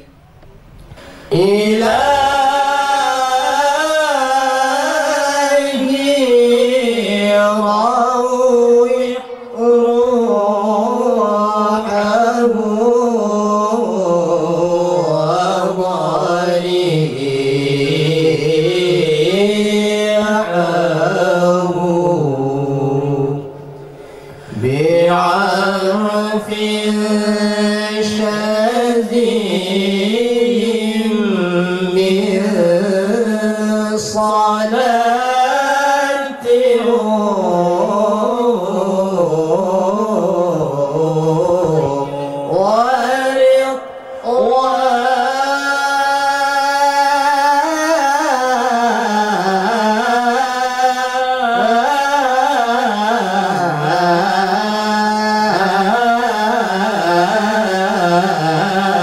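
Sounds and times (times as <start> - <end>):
men singing into microphones: 1.0 - 23.6, 24.4 - 59.0.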